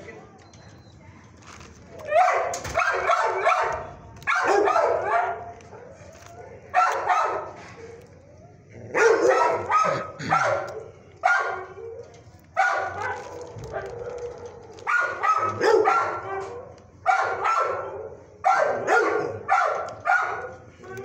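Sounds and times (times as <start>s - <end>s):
dogs barking: 2.0s - 8.2s, 8.8s - 21.0s.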